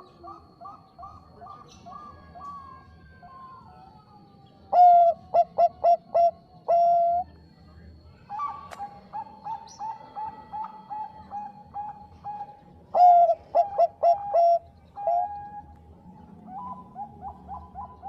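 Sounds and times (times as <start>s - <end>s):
doves cooing: 0.0s - 7.3s, 8.3s - 18.0s.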